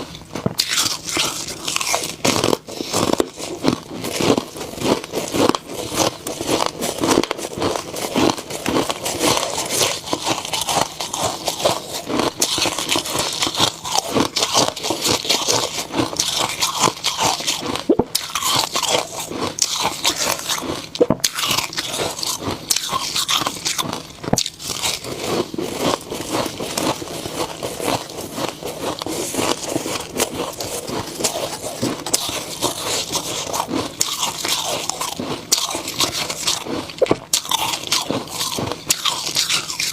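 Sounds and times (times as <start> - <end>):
person chewing crunchy ice: 0.0 - 39.9.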